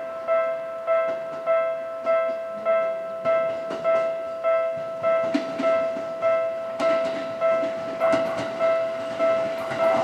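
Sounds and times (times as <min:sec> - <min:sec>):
level crossing alarm bell: 0:00.0 - 0:10.0.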